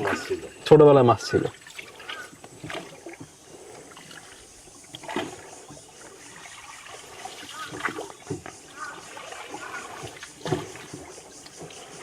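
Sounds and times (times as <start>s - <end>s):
paddle splashes: 0.0s - 12.0s
water lapping around boat: 0.0s - 12.0s.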